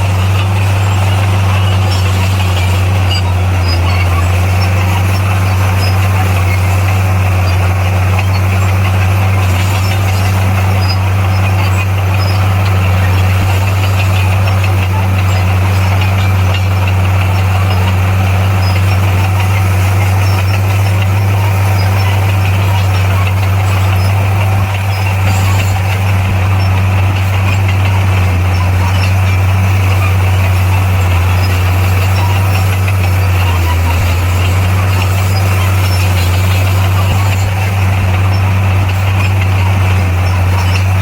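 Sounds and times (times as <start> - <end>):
bulldozer diesel engine droning: 0.0 - 41.0.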